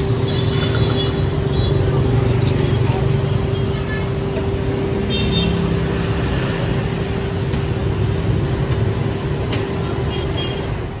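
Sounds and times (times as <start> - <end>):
constant hum: 0.0 - 11.0
passing motor traffic rumble: 0.0 - 11.0.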